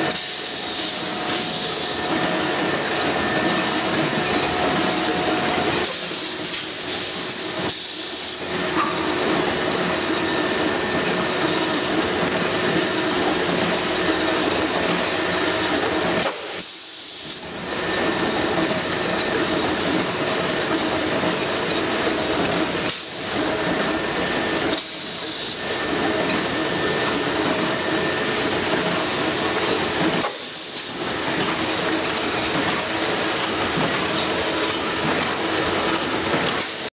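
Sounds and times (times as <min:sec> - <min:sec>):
machine clatter and hum: 0:00.0 - 0:36.9.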